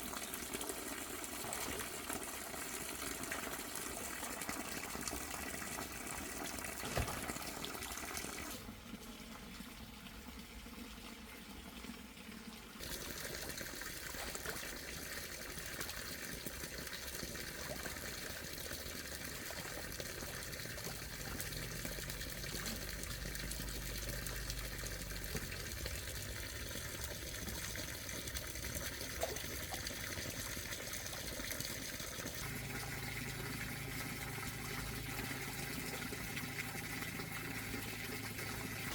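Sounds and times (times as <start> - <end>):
water gushing: 0.0 - 38.9.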